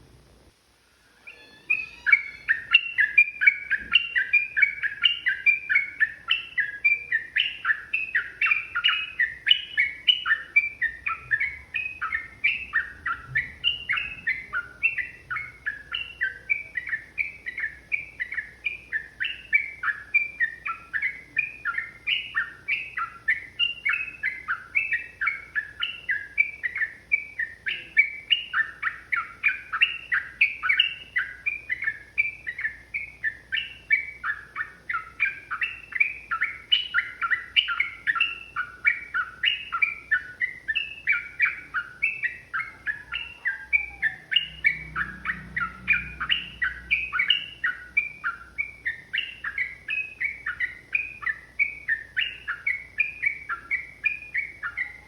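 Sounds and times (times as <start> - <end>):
bird singing bubbly chattering notes: 1.3 - 55.0.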